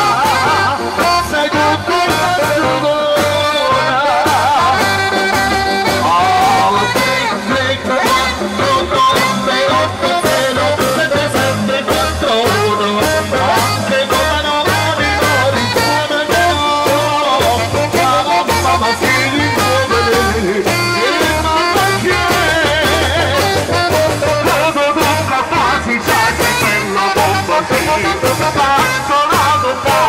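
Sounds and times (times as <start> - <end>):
live band music: 0.0 - 30.0.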